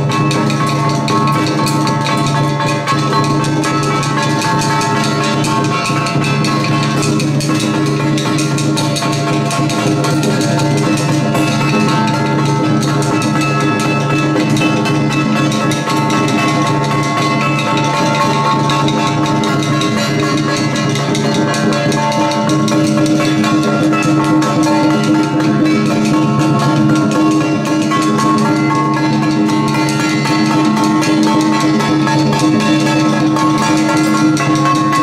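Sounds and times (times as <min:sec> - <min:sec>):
fast drumming and percussion: 0:00.0 - 0:35.0.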